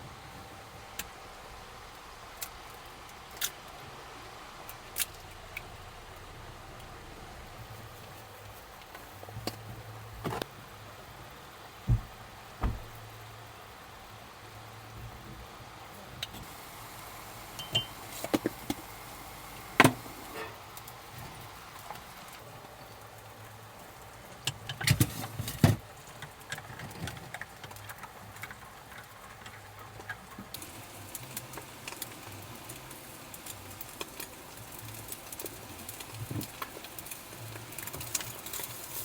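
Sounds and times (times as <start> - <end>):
steady background hiss: 0.0 - 28.6, 30.5 - 39.0.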